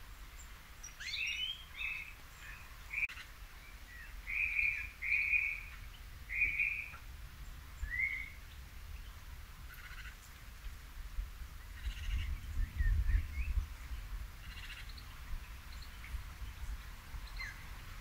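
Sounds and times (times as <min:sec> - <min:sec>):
bird calls: 0:00.1 - 0:10.8, 0:11.6 - 0:18.0.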